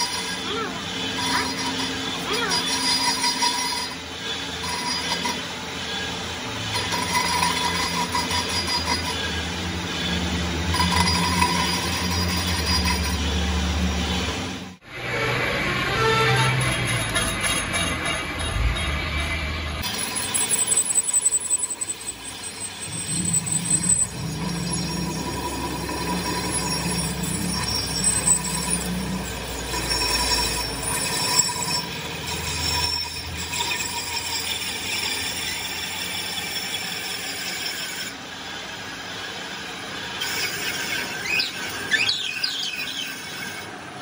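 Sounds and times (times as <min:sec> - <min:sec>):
metal lathe squealing: 0:00.0 - 0:44.0.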